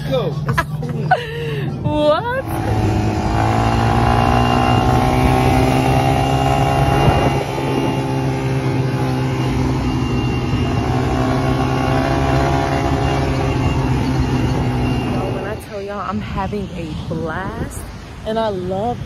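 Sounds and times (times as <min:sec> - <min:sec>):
vehicle engine running: 0:00.0 - 0:18.2.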